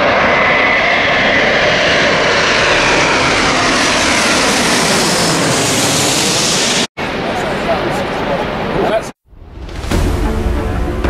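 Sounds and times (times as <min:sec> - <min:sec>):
jet airliner roaring overhead: 0:00.0 - 0:09.2
falling engine whine: 0:00.0 - 0:11.0.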